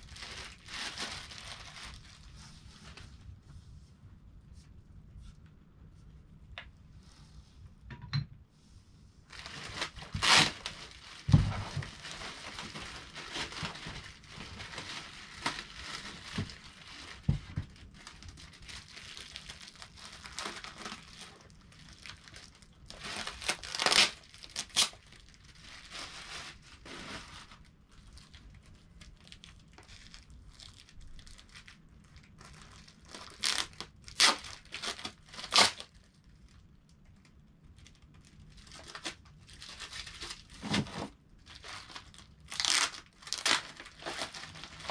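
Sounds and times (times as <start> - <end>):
plastic bags crinkling: 0.0 - 3.0, 9.3 - 36.6, 37.8 - 44.9.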